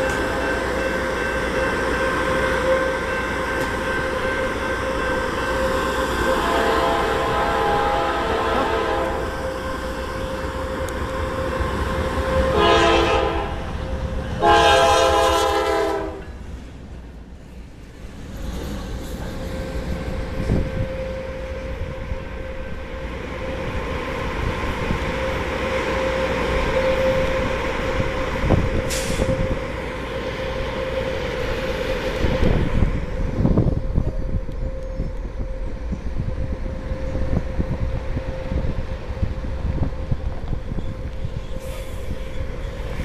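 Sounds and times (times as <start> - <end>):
locomotive air horn blasts: 0.0 - 16.3, 20.3 - 42.2
diesel engines and wheels rumbling: 0.0 - 43.0.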